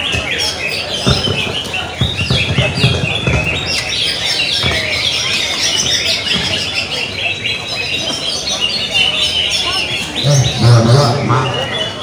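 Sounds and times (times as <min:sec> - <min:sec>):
songbirds chorus: 0:00.0 - 0:12.0.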